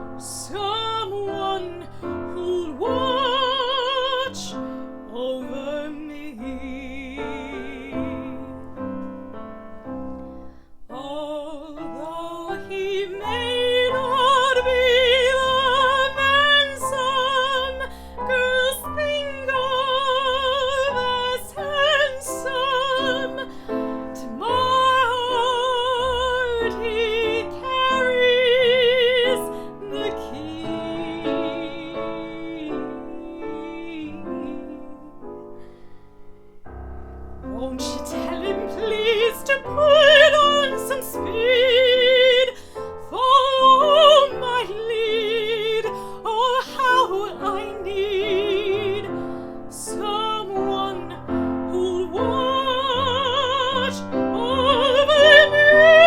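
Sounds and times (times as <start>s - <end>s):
woman singing with vibrato: 0.0s - 8.8s, 10.9s - 35.2s, 37.5s - 56.0s
piano accompaniment: 0.0s - 56.0s.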